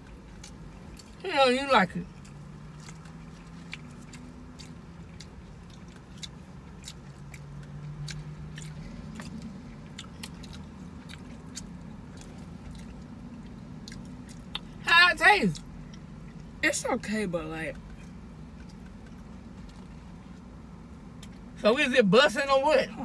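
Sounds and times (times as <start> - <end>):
person chewing food: 0.0 - 1.2, 2.1 - 14.8, 15.5 - 16.6, 17.8 - 21.5
steady low hum: 0.0 - 23.0.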